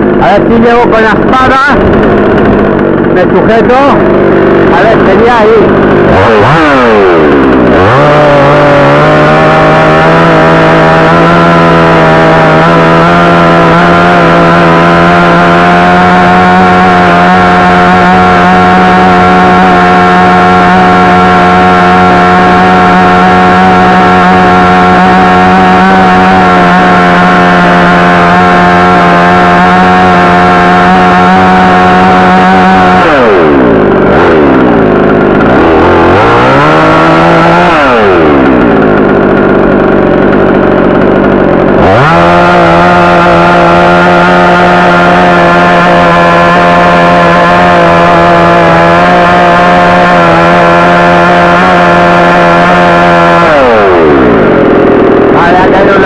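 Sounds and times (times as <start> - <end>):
chainsaw cutting branch: 0.0 - 56.0.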